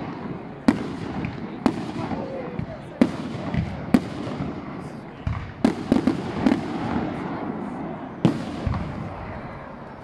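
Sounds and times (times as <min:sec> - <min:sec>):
firework bangs: 0:00.0 - 0:09.6
rumble and crackle of fireworks: 0:00.0 - 0:10.0.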